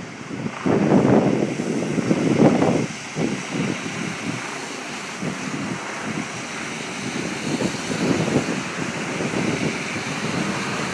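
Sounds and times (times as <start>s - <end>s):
floodwater rushing: 0.0s - 10.9s
wind buffeting microphone: 0.0s - 10.9s.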